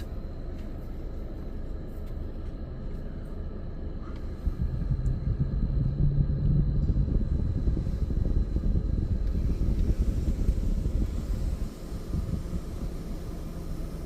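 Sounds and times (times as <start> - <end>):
car wash machinery rumbling: 0.0 - 14.0.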